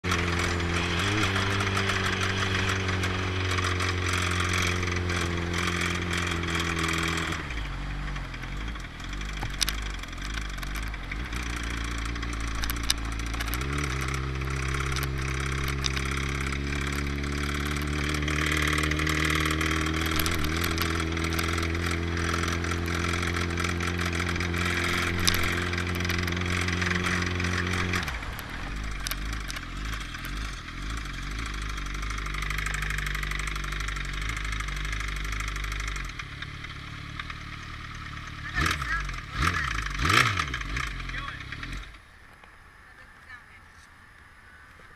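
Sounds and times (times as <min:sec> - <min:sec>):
motorcycle engine revving: 0:00.0 - 0:42.4
sharp engine ticks: 0:00.0 - 0:42.6.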